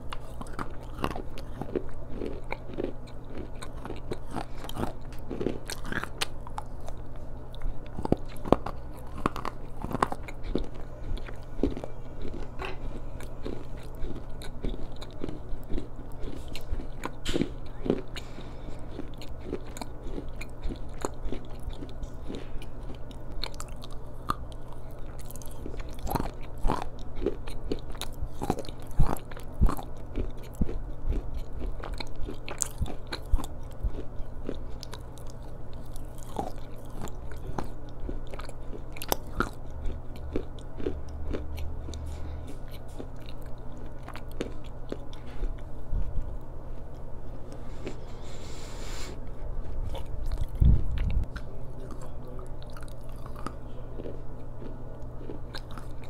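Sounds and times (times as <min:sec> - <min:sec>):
low hum: 0:00.0 - 0:56.0
slate being chewed crunching: 0:00.0 - 0:56.0.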